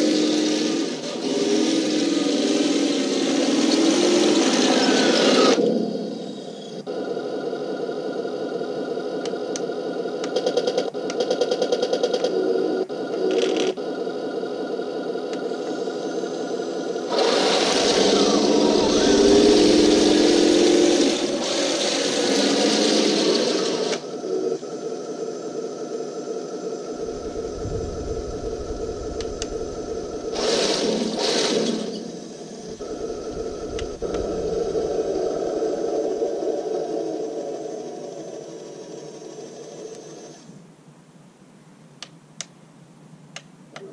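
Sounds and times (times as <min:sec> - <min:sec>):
electric motors whirring: 0:00.0 - 0:40.6.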